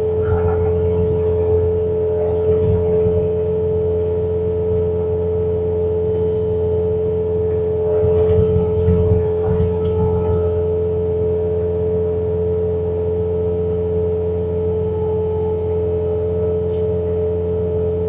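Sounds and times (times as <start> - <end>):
loader engine drone: 0.0 - 18.0
steady high whine: 0.0 - 18.0.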